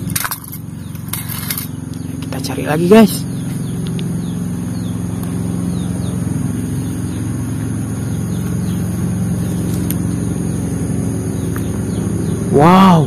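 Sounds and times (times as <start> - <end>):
high bird chirps: 0.0 - 12.6
low motor engine hum: 0.0 - 13.0.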